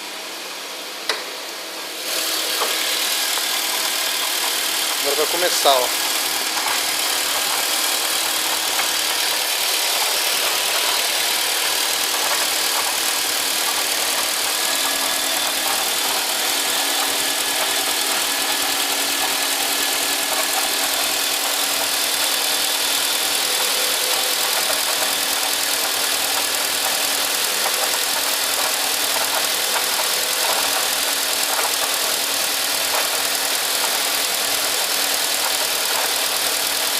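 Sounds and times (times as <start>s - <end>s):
car engine idling: 0.0s - 36.9s
clanking knocking noise: 2.6s - 36.9s.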